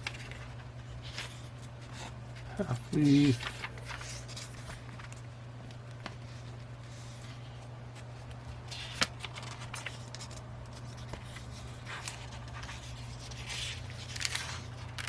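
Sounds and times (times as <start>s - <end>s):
paper pages rustling: 0.0s - 15.0s
steady low hum: 0.0s - 15.0s.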